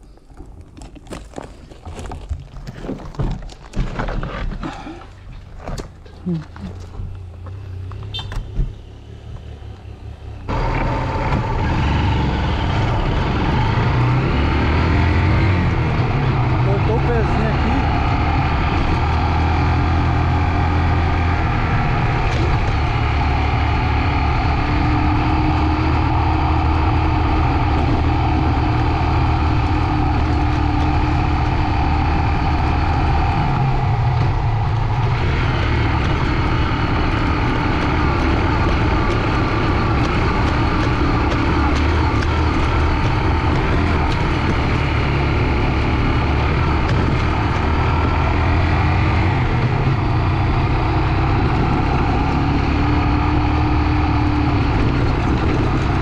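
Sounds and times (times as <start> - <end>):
motorcycle engine running: 6.0 - 56.0.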